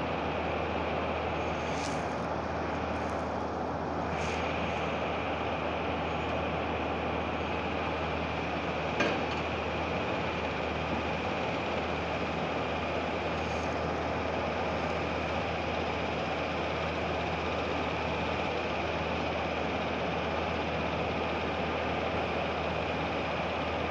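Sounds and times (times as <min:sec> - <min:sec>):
faint high whine: 0:00.0 - 0:19.7
industrial machinery running: 0:00.0 - 0:23.9.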